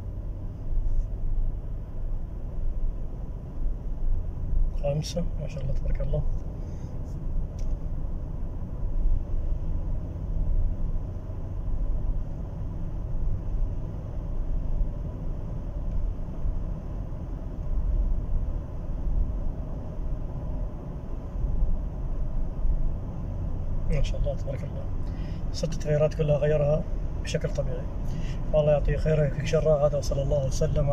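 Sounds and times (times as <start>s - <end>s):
car cabin road and engine rumble: 0.0s - 30.9s.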